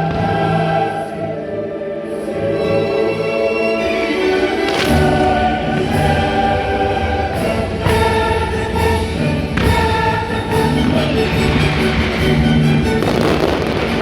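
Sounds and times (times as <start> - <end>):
choir singing with orchestra: 0.0 - 14.0.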